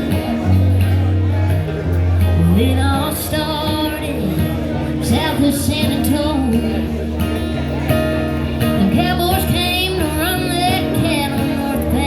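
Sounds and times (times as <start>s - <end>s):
live country band playing: 0.0s - 12.0s.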